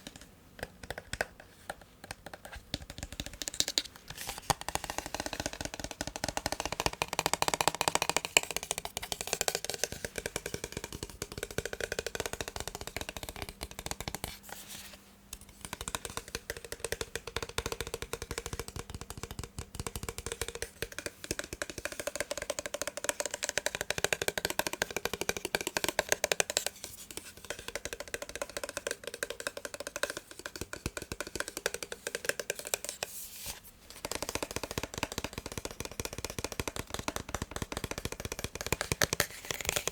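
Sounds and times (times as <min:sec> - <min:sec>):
fast tapping on plastic casing: 0:02.0 - 0:14.3, 0:15.4 - 0:33.1, 0:33.9 - 0:39.9.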